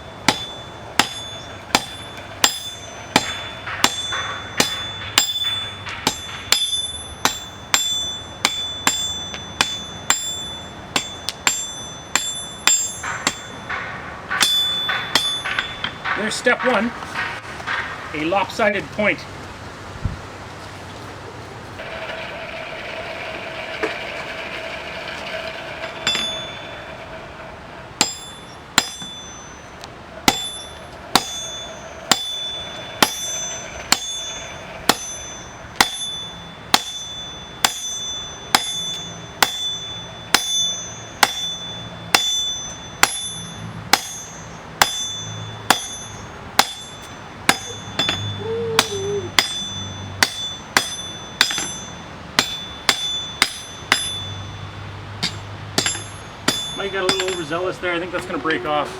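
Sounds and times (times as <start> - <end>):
hammer striking anvil: 0.0 - 18.6, 25.9 - 27.0, 28.0 - 58.4.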